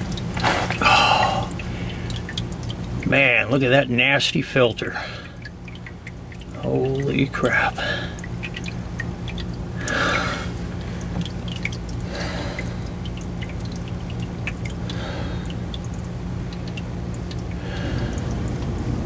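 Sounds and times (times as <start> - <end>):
fluid dripping: 0.0 - 19.0
steady low hum: 0.0 - 19.0.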